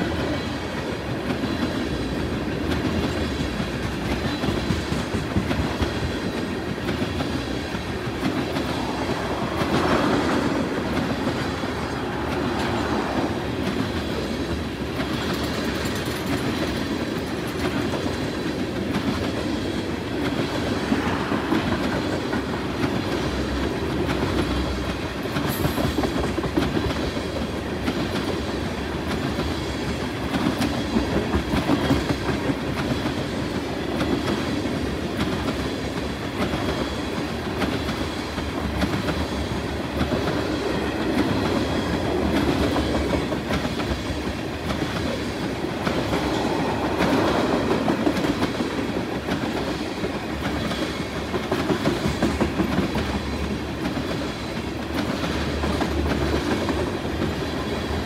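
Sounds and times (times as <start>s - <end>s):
steel wheels clacking over rail joints: 0.0s - 58.0s
train cars rumbling past: 0.0s - 58.0s.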